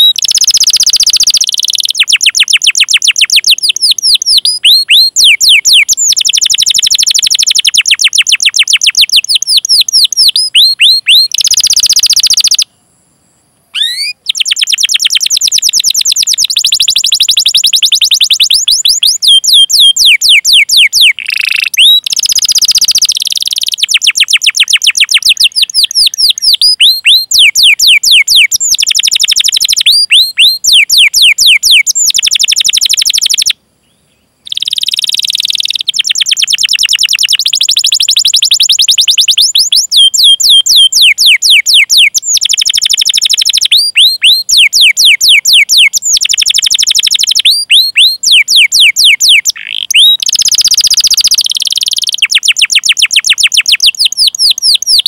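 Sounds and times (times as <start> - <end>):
canary singing trills: 0.0 - 12.8, 13.7 - 55.0.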